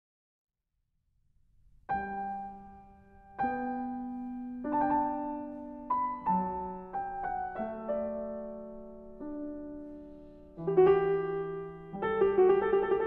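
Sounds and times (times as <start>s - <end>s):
slow solo piano: 1.9s - 13.0s.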